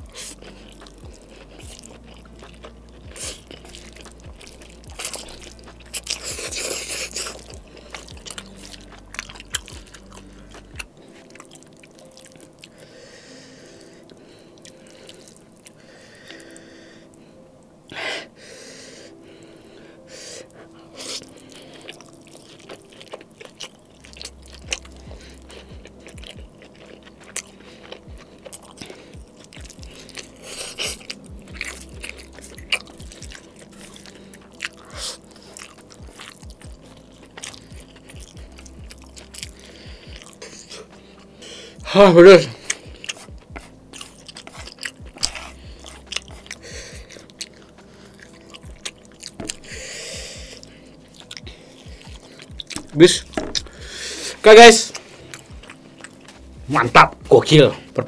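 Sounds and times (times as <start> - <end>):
chewing with wet mouth clicks: 0.0 - 12.8, 21.0 - 41.9, 42.5 - 56.6
noodles slurped: 0.0 - 12.8, 20.8 - 41.8, 42.4 - 56.3.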